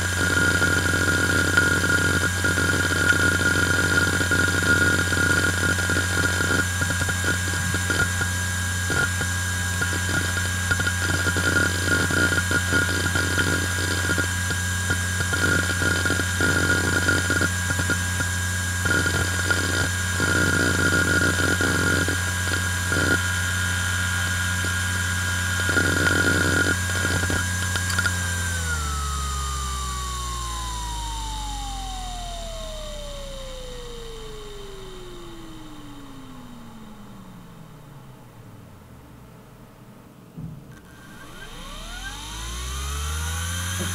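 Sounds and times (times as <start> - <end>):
hard drive spinning whine: 0.0 - 39.7, 40.7 - 43.9.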